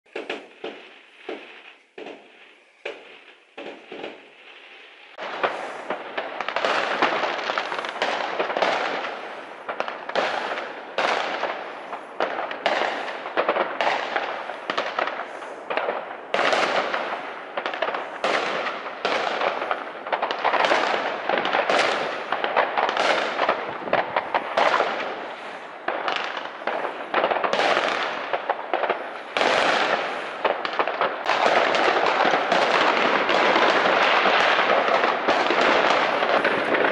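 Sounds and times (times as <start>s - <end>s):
fireworks bangs and crackling: 0.0s - 36.9s
fireworks pops: 0.0s - 36.9s.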